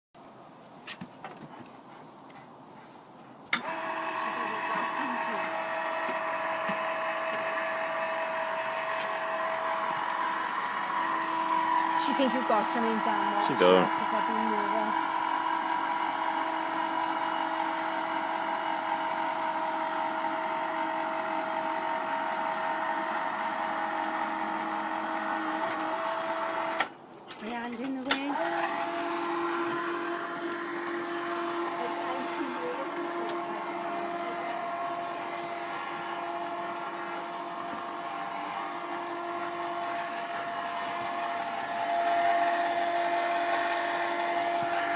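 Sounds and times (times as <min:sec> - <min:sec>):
elevator motor humming: 0:03.6 - 0:26.9, 0:28.1 - 0:44.9.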